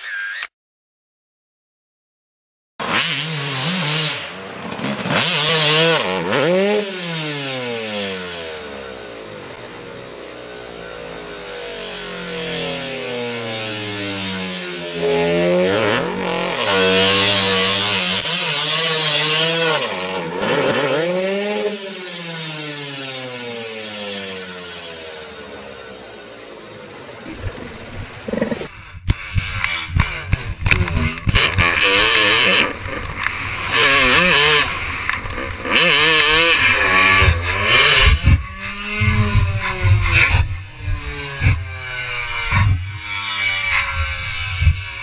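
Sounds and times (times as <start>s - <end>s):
dirt bike engines revving: 2.8s - 45.0s.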